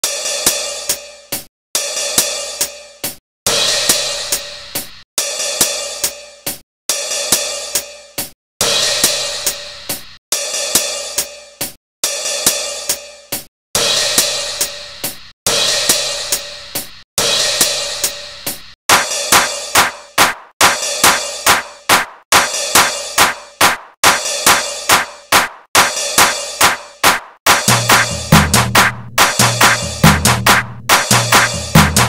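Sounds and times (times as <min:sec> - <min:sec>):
drum loop with cymbal wash: 0:00.0 - 0:32.0.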